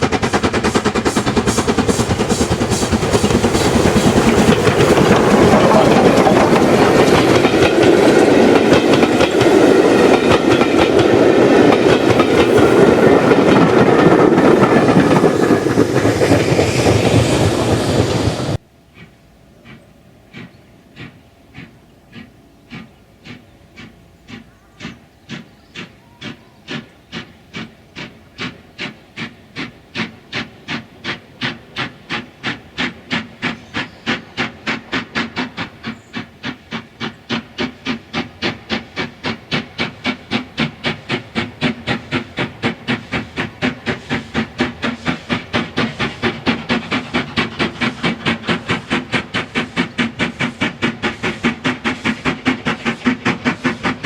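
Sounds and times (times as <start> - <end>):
steam locomotive exhaust chuffs: 0.0 - 54.0.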